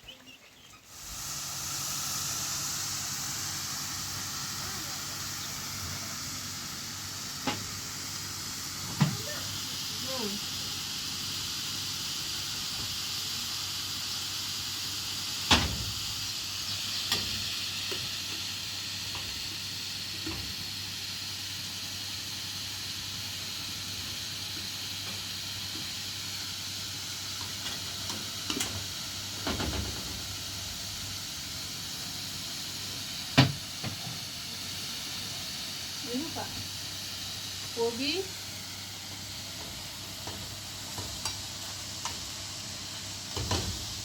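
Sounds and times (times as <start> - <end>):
steady hiss: 0.6 - 44.0.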